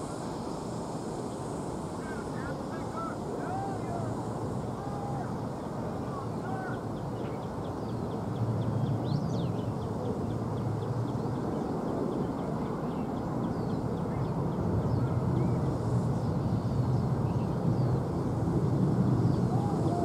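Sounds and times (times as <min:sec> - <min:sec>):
distant jet engine rumble: 0:00.0 - 0:20.0.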